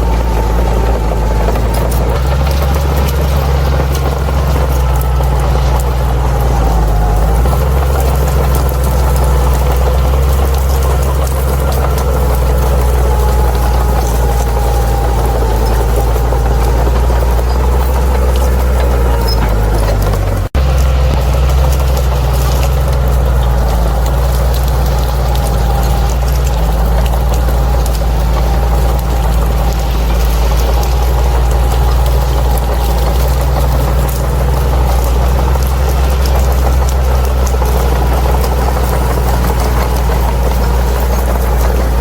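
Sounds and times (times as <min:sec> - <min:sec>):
bulldozer diesel engine rumbling: 0:00.0 - 0:42.0.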